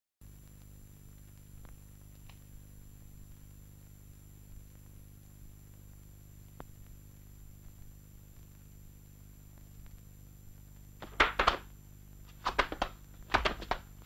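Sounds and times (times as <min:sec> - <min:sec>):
faint electrical hum and hiss: 0:00.2 - 0:14.0.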